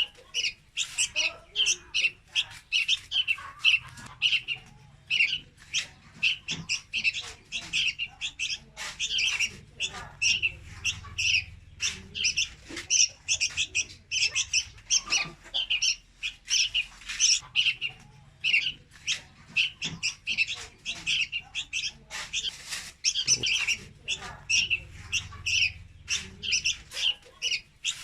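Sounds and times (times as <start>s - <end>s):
bird chirping rapidly: 0.0s - 28.0s.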